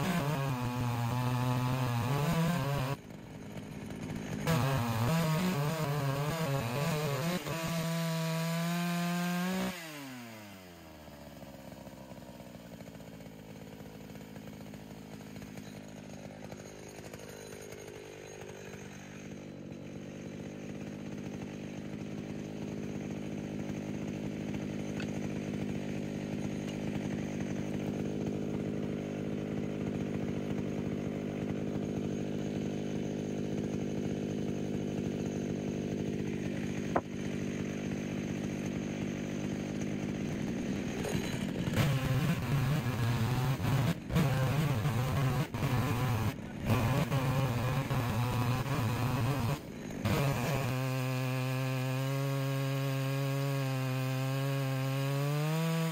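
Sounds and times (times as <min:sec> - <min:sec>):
chainsaw cutting log: 0:00.0 - 0:55.9
chainsaw idling: 0:00.0 - 0:55.9.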